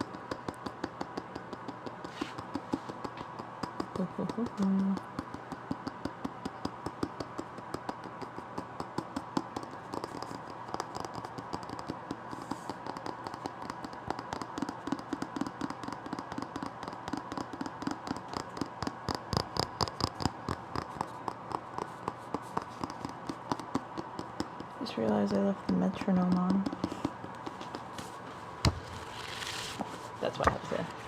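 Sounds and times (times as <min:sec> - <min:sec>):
metronome ticking: 0:00.0 - 0:28.0
nails tapping and scratching book: 0:00.0 - 0:31.0.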